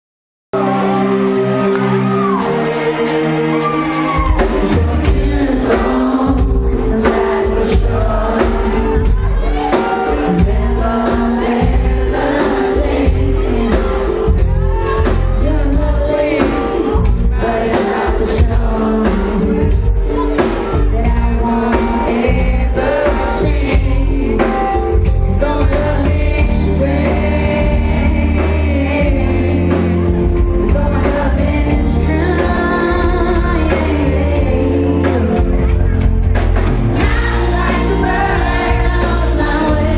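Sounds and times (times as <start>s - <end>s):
heavy bass: 0.6s - 39.9s
person singing: 0.6s - 39.9s
steady drum beat: 3.8s - 39.9s.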